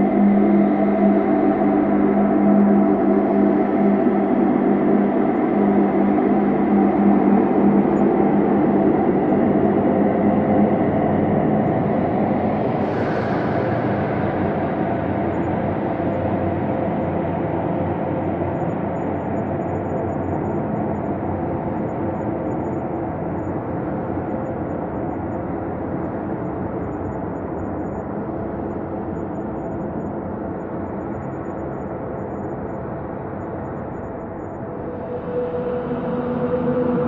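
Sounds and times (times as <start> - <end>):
ambient drone with sustained tones: 0.0 - 37.0.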